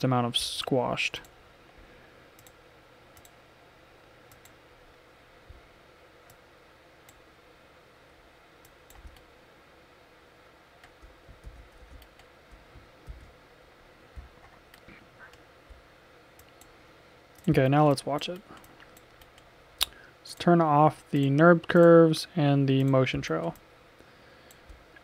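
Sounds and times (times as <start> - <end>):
low steady hiss: 0.0 - 25.0.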